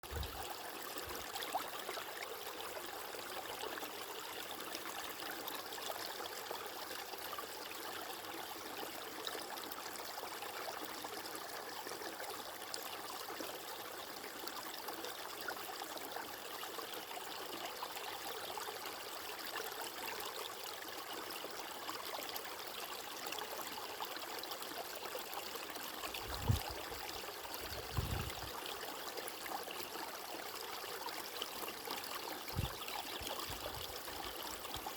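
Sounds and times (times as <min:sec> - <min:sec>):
flowing water: 0:00.0 - 0:34.9.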